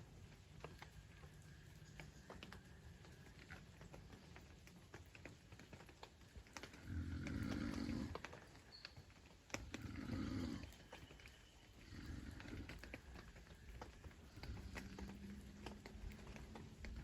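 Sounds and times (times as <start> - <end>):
light rain ticking: 0.0 - 17.0.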